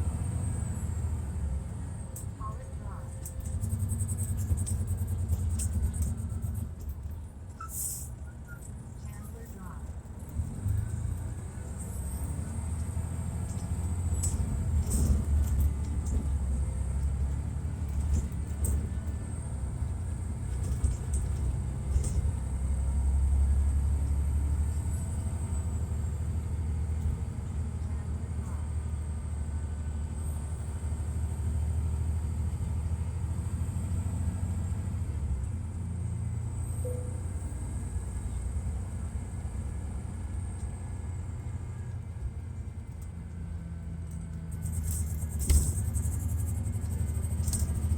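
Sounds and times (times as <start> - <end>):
diesel engine rumbling: 0.0 - 47.9.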